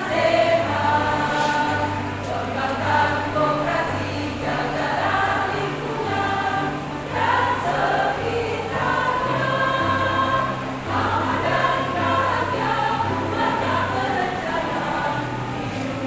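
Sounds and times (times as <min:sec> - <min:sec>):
choir singing in parts: 0:00.0 - 0:16.0.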